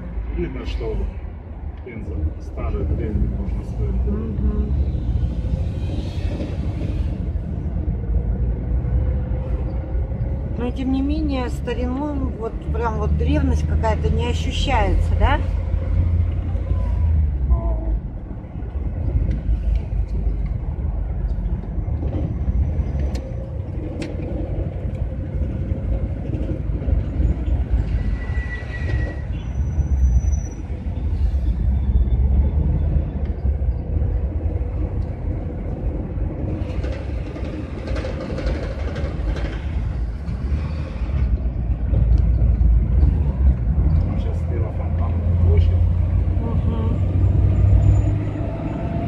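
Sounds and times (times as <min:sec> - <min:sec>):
van engine and road rumble: 0:00.0 - 0:49.0.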